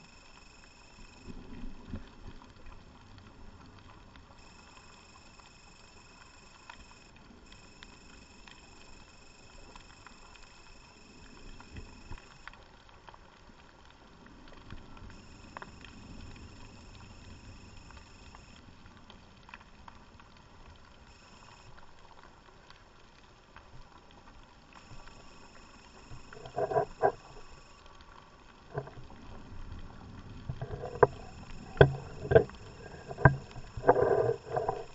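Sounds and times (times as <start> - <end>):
faint steady underwater hiss: 0.0 - 34.9
sharp clicks and crackles: 0.0 - 34.9.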